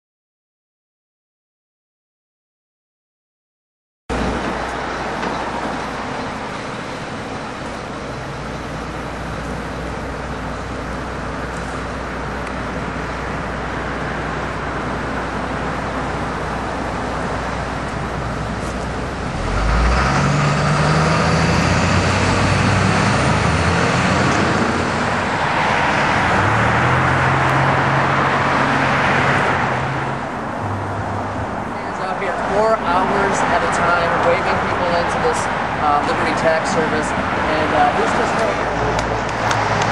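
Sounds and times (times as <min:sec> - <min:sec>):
heavy vehicle engines: 0:04.1 - 0:39.9
road traffic passing: 0:04.1 - 0:39.9.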